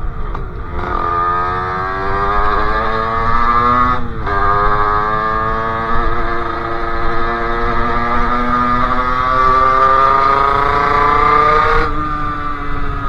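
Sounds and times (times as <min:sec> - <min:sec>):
moped engine revving: 0:00.0 - 0:13.0.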